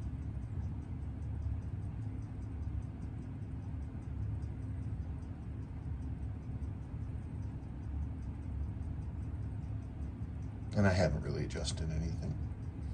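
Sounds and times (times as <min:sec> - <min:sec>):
faint watch ticking: 0:00.0 - 0:12.9
steady low hum: 0:00.0 - 0:12.9.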